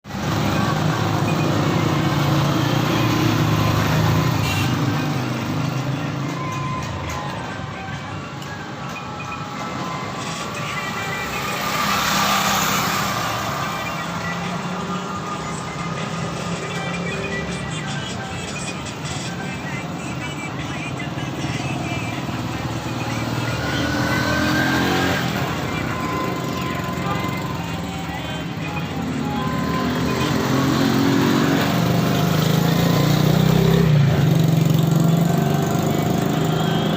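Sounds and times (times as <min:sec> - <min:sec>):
traffic noise: 0:00.0 - 0:36.9.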